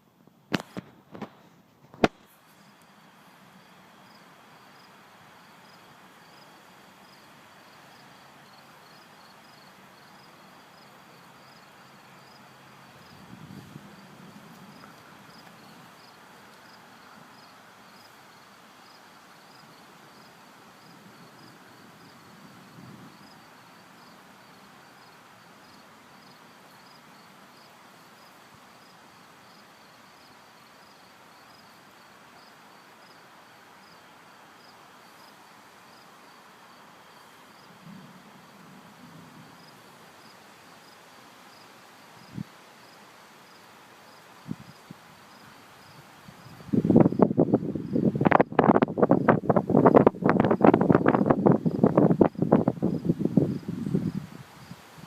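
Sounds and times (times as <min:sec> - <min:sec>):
outdoor background noise: 0:00.0 - 0:55.0
insects chirping: 0:02.0 - 0:55.0.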